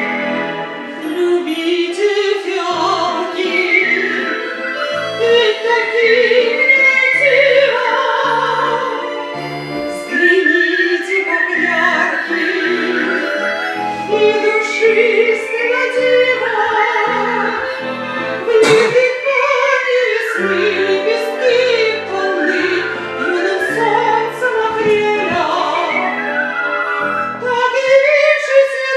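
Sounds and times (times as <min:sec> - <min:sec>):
woman singing classical style: 0:00.8 - 0:28.9.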